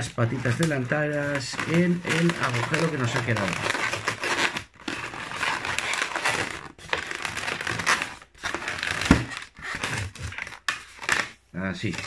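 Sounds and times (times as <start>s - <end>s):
balloons rubbing together: 0.0s - 12.0s.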